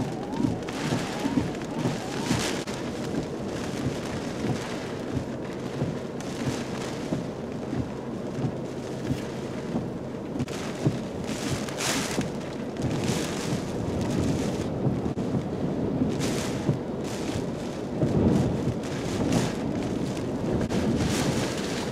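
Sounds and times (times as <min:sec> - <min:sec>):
rain beating on a car: 0:00.0 - 0:21.9
wind gusts on a car: 0:00.0 - 0:21.9.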